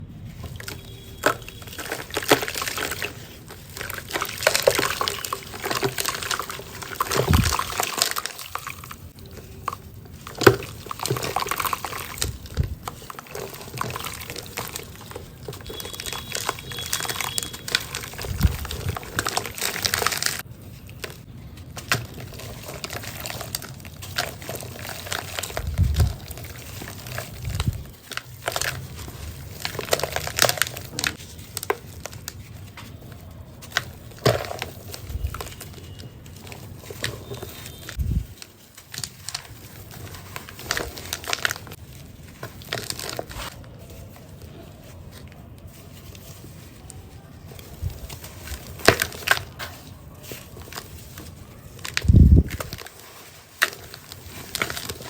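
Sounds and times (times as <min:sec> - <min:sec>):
cement crackling and crumbling: 0:00.0 - 0:55.0.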